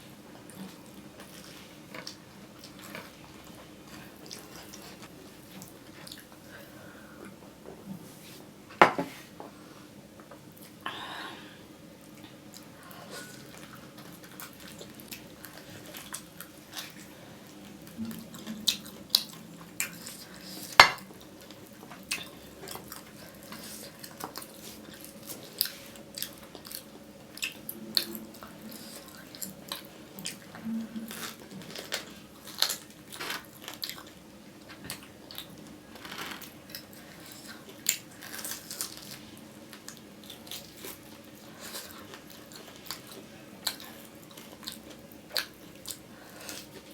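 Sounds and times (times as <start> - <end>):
faint steady hum: 0.0 - 46.9
chewing and mouth noises: 0.4 - 6.4, 12.0 - 35.8, 36.4 - 46.9.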